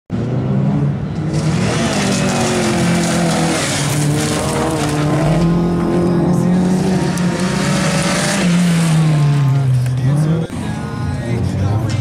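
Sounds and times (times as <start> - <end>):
car engine at high revs: 0.1 - 12.0.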